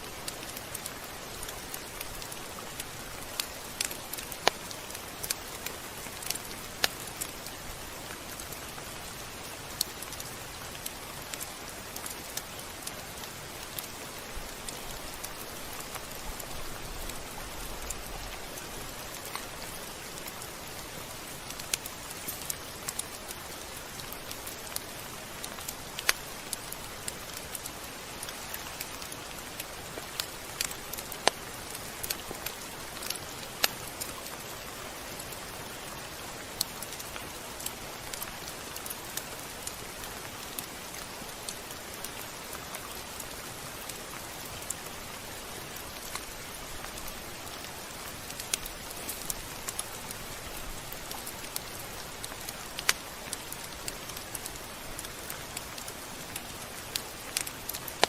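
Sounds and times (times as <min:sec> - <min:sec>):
steady rain hissing: 0:00.0 - 0:58.0.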